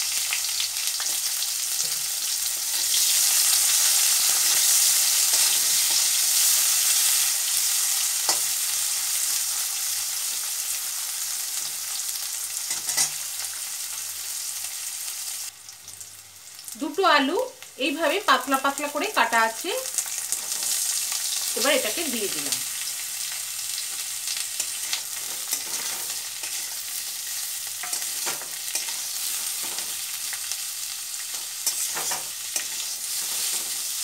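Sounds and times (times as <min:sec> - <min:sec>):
onion sizzling in hot oil: 0:00.0 - 0:34.0.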